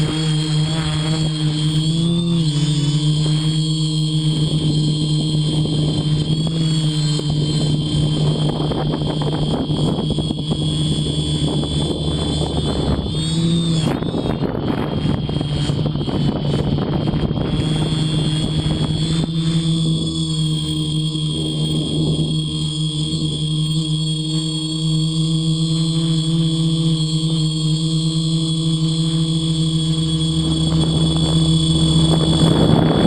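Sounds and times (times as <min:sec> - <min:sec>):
drone propellers whirring: 0:00.0 - 0:33.0.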